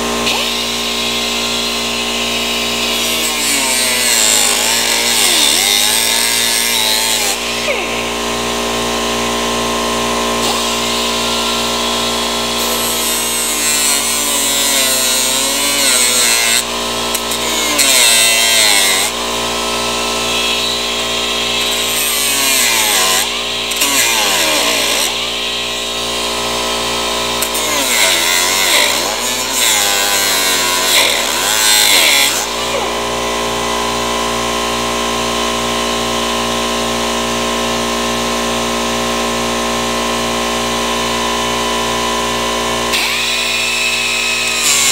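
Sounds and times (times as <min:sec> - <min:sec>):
electric power tool running: 0:00.0 - 0:44.9.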